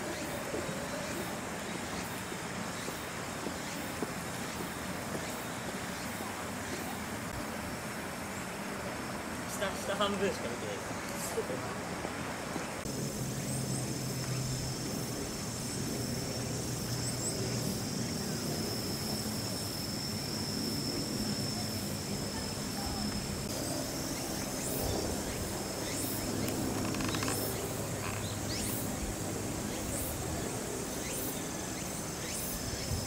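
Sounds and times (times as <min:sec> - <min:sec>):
high insect drone: 0:00.0 - 0:33.0.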